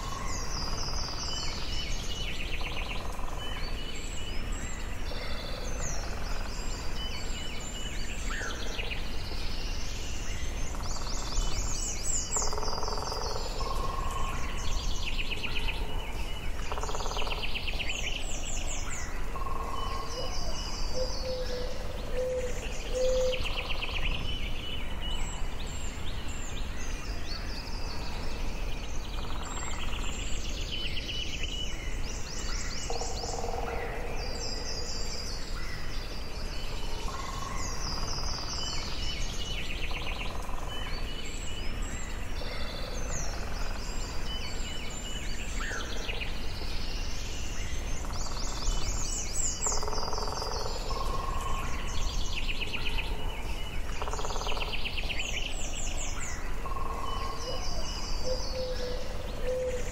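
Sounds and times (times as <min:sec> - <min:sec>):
songbirds singing and trilling: 0:00.0 - 0:59.9.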